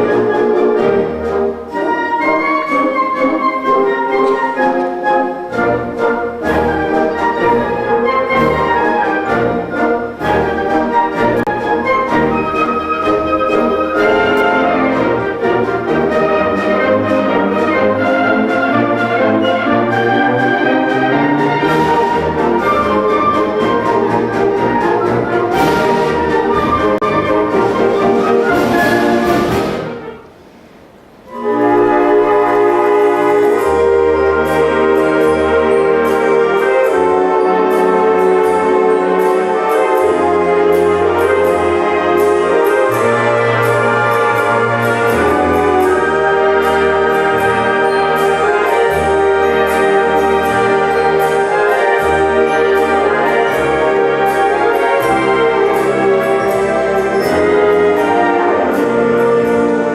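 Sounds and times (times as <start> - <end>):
wind band playing: 0.0 - 59.9.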